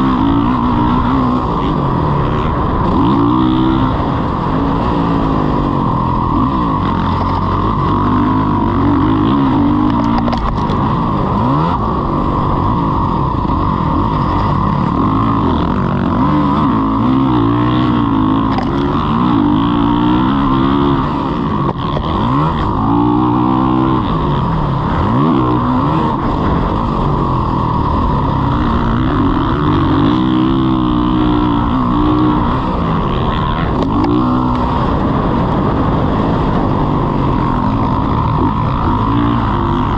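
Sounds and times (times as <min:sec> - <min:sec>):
constant rushing noise: 0:00.0 - 0:39.9
dirt bike engine revving: 0:00.0 - 0:39.9.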